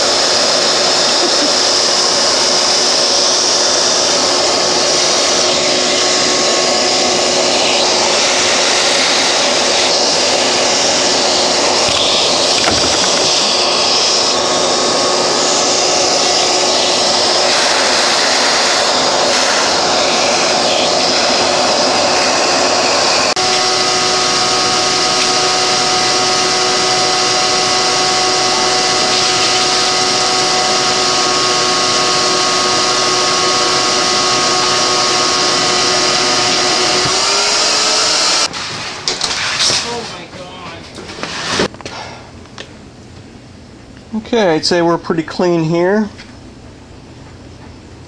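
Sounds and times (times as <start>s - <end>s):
shop vacuum motor whining: 0.0s - 40.2s.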